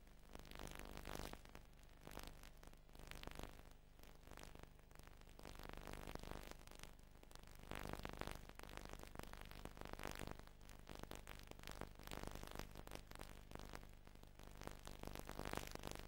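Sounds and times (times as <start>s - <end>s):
scattered crackle: 0.3s - 16.0s.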